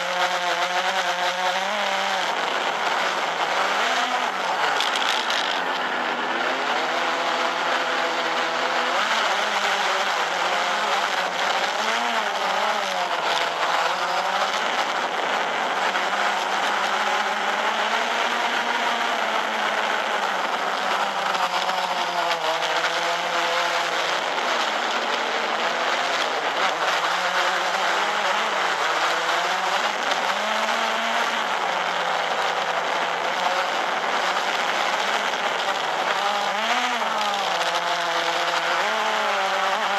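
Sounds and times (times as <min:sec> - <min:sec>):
drone motors buzzing: 0:00.0 - 0:39.9.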